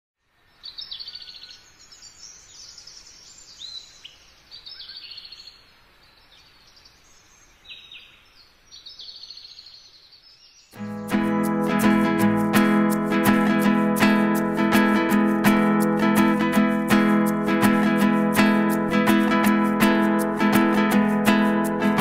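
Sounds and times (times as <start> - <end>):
faint outdoor hiss: 0.2 - 22.0.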